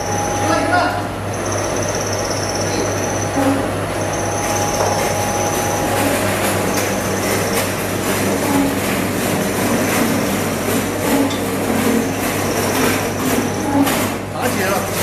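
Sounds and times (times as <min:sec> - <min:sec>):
oil press machine hum: 0:00.0 - 0:15.0.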